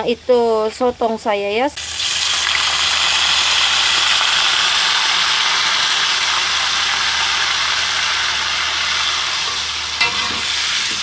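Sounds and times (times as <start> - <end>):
squid sizzling in hot oil: 1.8 - 11.0.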